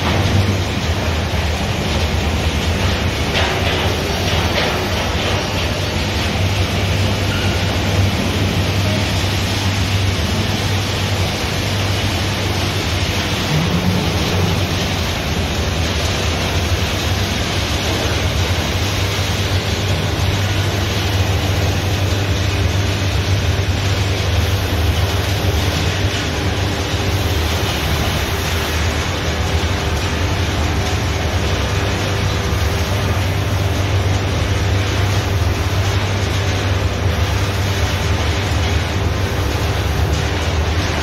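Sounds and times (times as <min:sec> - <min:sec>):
machine humming: 0:00.0 - 0:41.0.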